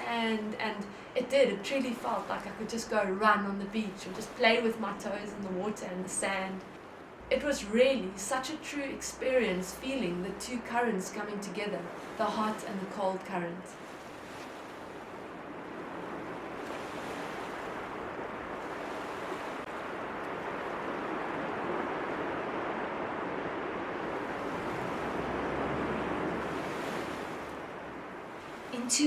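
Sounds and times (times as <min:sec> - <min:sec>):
ocean waves washing in: 0:00.0 - 0:29.0.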